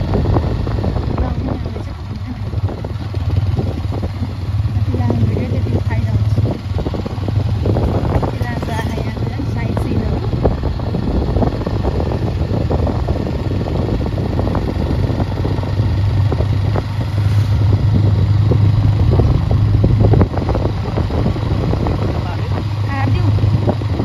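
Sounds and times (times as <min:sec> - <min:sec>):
rattles and bumps: 0:00.0 - 0:24.0
vehicle engine hum: 0:00.0 - 0:24.0.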